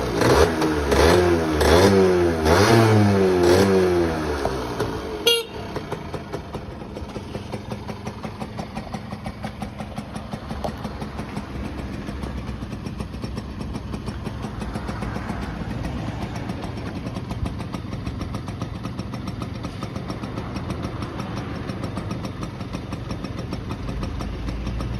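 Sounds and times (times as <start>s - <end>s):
two-stroke engine idling: 0.0s - 24.9s.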